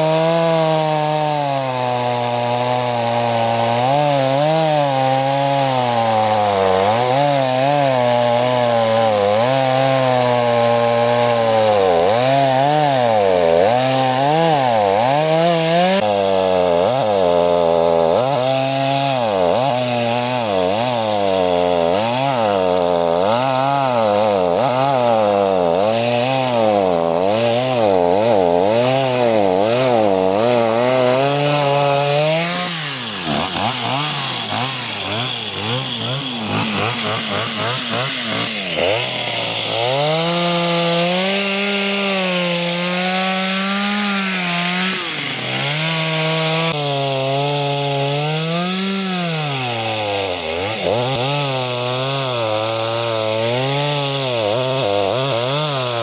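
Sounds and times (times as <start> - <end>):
chainsaw cutting through ice: 0.0 - 56.0.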